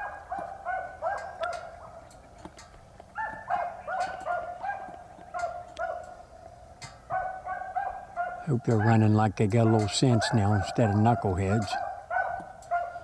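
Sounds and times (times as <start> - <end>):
dogs baying: 0.0 - 13.0.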